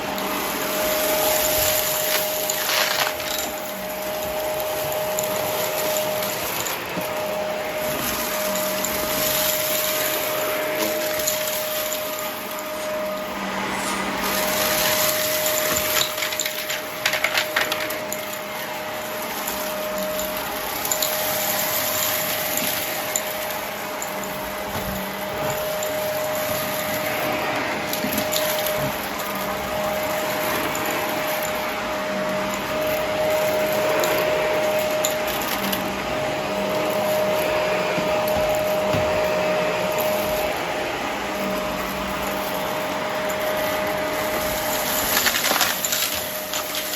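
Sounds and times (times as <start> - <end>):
vacuum cleaner motor whine: 0.0 - 46.9
debris crackling in vacuum: 0.2 - 40.6, 41.2 - 46.9.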